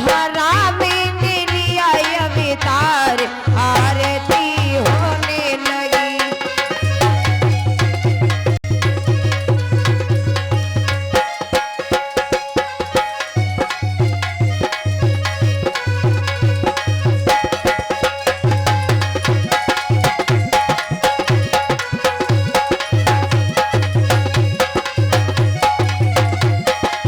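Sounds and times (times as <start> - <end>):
fast hand-drum rhythm: 0.0 - 27.0
instrumental melody line: 0.0 - 27.0.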